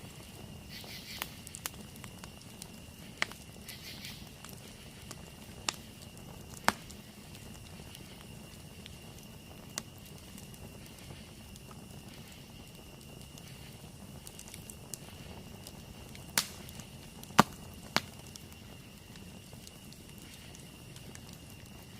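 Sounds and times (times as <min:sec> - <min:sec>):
campfire hissing: 0:00.0 - 0:21.9
wood popping in fire: 0:00.0 - 0:21.9.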